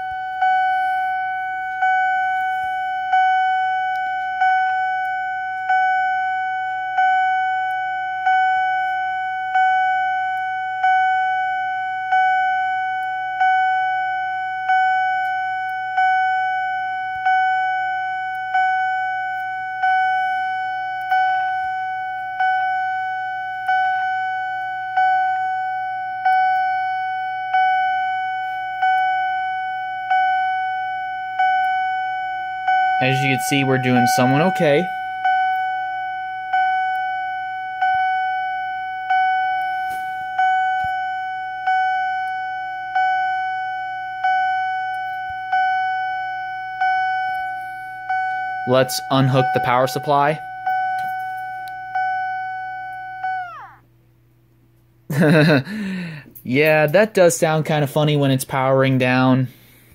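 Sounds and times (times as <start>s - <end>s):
fire alarm electronic chime: 0.0s - 54.0s.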